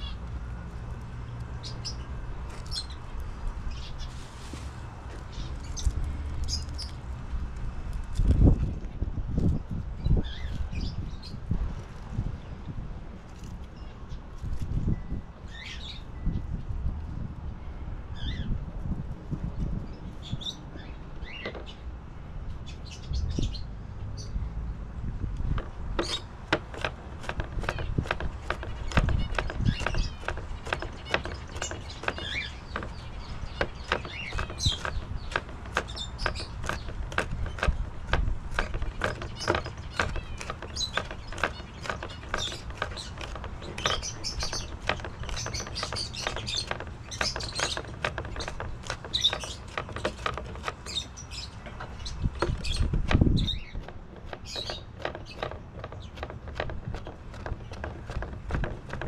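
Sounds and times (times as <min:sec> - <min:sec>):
small birds chirping: 0:00.0 - 0:07.1, 0:08.1 - 0:16.7, 0:19.5 - 0:59.0.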